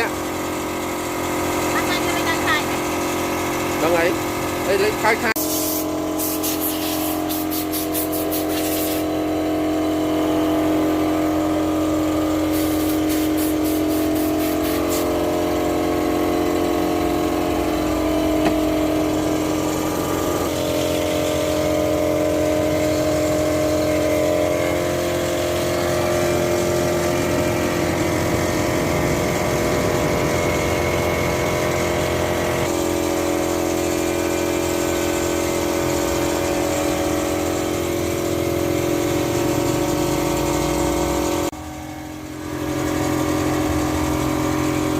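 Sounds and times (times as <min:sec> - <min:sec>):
motor humming: 0:00.0 - 0:44.9.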